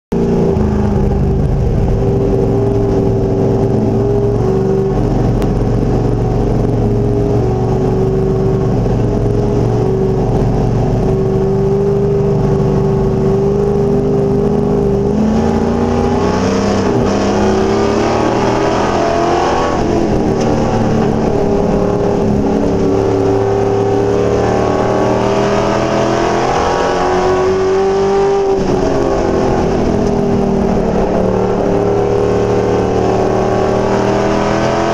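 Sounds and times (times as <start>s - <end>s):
truck engine revving: 0.1s - 34.9s.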